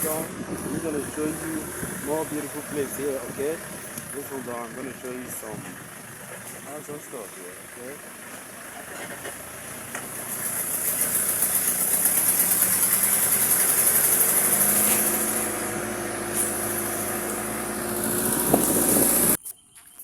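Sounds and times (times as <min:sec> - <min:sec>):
vehicle engine humming: 0:00.0 - 0:19.4.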